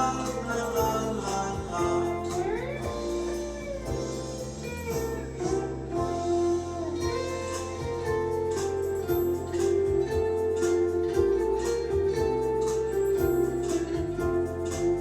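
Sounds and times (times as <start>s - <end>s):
guitar music with sliding notes: 0.0s - 15.0s.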